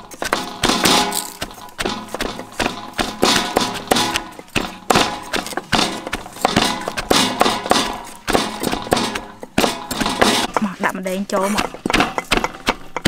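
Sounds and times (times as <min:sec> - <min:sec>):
cleaver chopping on wooden block: 0:00.0 - 0:10.8, 0:11.4 - 0:13.0
pestle pounding in wooden mortar: 0:00.0 - 0:13.0.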